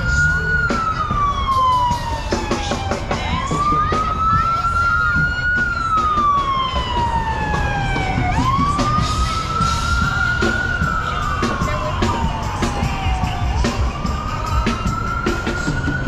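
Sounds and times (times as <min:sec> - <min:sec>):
ambulance siren wailing: 0:00.0 - 0:16.0
traffic and street noise: 0:00.0 - 0:16.0.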